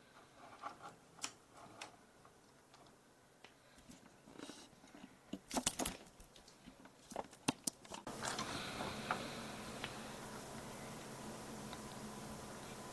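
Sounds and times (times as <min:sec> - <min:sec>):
faint steady hiss: 0:00.0 - 0:12.9.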